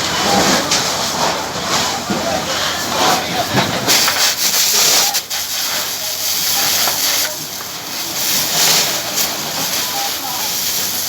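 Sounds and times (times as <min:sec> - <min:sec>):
fire hose spraying water: 0:00.0 - 0:11.0.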